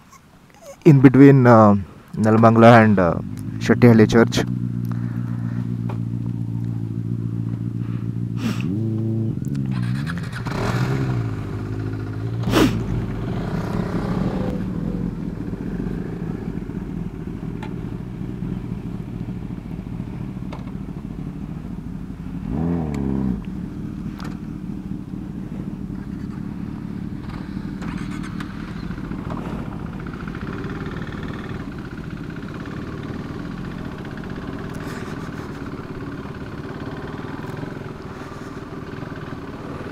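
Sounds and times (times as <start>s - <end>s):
motorcycle engine idling: 2.3s - 39.9s.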